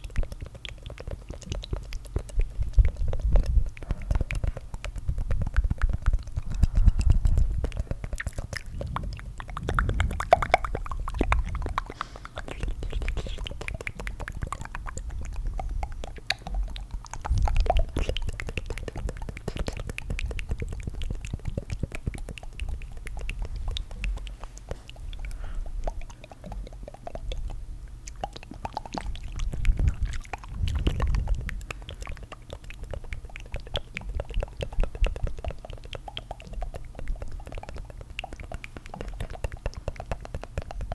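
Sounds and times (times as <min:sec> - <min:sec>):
wet mouth clicks and tongue flutters: 0:00.0 - 0:40.9.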